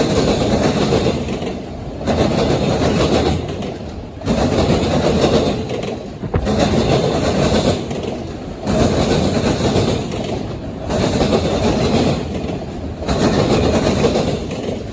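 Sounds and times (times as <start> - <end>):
train wheels clattering on rails: 0.0 - 14.9.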